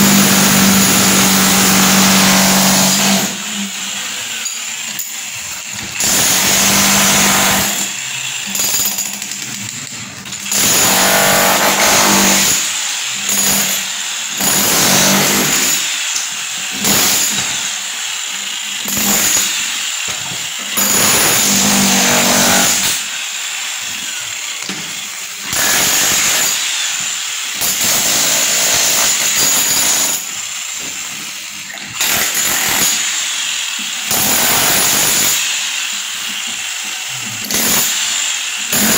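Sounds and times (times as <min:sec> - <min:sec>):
power tool bursts: 0:00.0 - 0:38.9.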